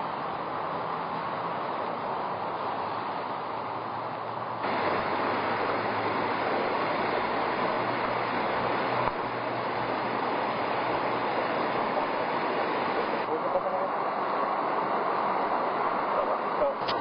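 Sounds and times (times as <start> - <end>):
wet street rushing noise: 0.0 - 17.0.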